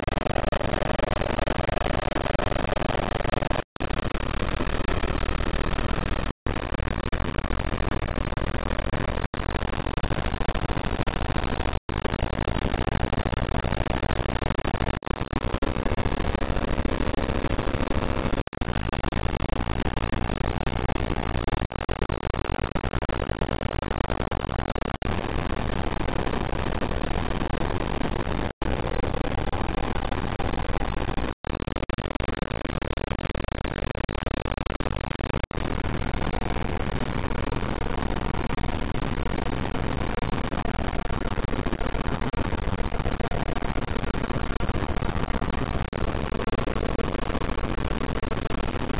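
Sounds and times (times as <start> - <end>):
harsh looping digital noise: 0.0 - 48.9.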